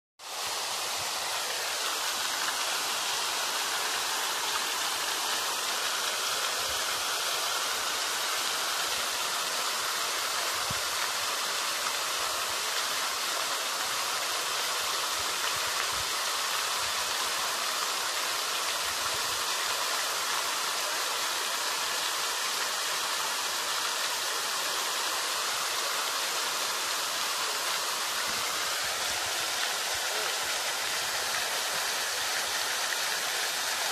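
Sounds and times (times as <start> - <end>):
steady rushing hiss: 0.2 - 33.9.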